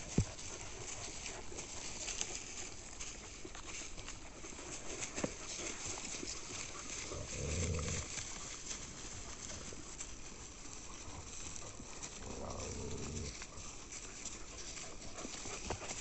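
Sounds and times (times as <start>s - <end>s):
puppies clicking and scuffling: 0.0s - 16.0s.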